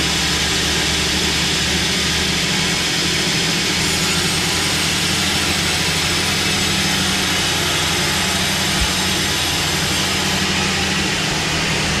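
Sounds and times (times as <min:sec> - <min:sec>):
sawmill saw running: 0:00.0 - 0:12.0.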